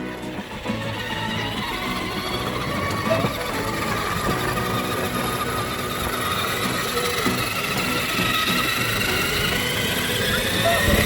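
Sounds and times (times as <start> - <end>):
electric toy car motors whining: 0.0 - 11.0.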